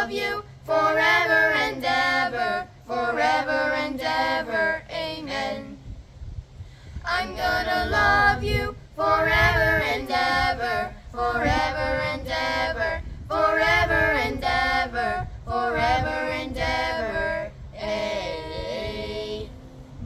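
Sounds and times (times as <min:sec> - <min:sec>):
children singing unaccompanied: 0:00.0 - 0:05.8, 0:07.0 - 0:20.0.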